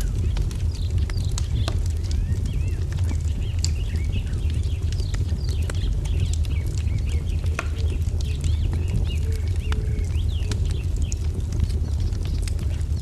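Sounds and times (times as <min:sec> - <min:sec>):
small birds chirping: 0:00.0 - 0:13.0
wood fire crackling: 0:00.0 - 0:13.0.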